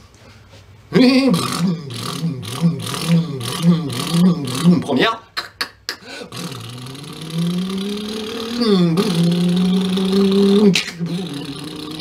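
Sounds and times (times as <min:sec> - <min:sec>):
person imitating engine with mouth: 0:00.9 - 0:12.0.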